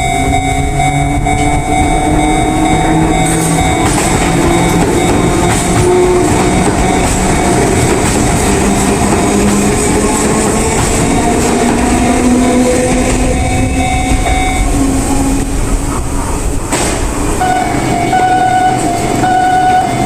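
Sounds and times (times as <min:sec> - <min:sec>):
train motor drone: 0:00.0 - 0:20.0
train wheels on rails: 0:00.0 - 0:20.0.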